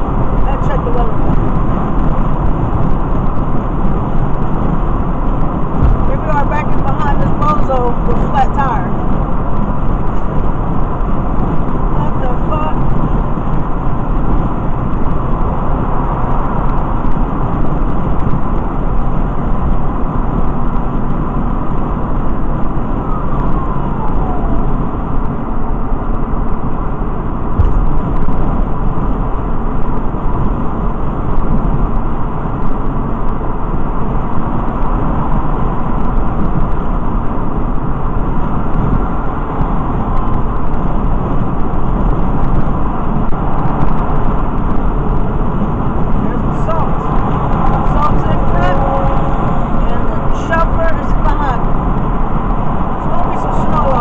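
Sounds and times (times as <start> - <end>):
car road noise from inside: 0.0 - 54.0.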